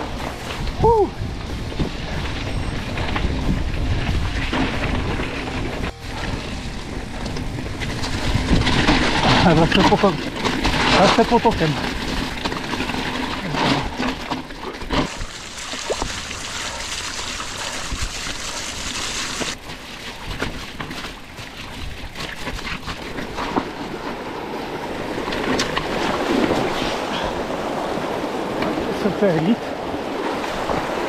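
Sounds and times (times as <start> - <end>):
water splashing around bike wheels: 0.0 - 31.0.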